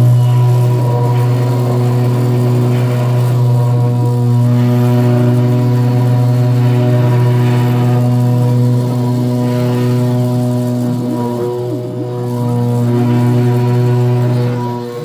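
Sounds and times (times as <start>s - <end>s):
end mill cutting wood: 0.0s - 15.0s
spindle motor hum: 0.0s - 15.0s.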